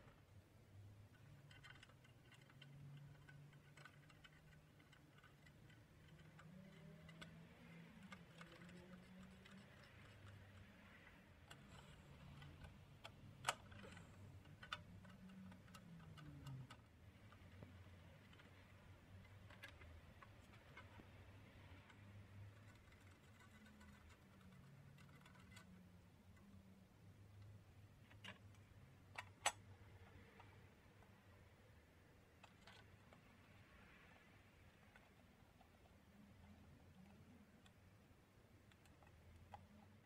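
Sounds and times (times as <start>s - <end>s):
faint clicks and light knocks: 0.0s - 40.0s.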